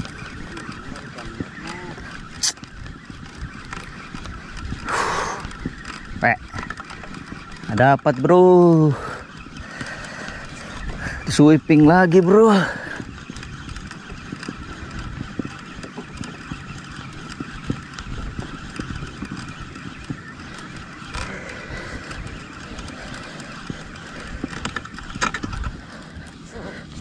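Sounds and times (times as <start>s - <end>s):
fishing reel whirring: 0.0s - 27.0s.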